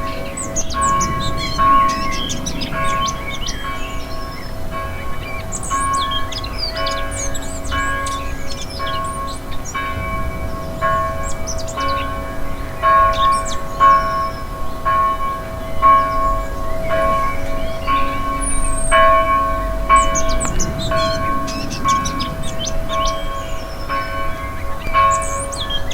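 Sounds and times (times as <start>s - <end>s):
birds chirping: 0.0s - 25.9s
church bell ringing: 0.0s - 25.9s.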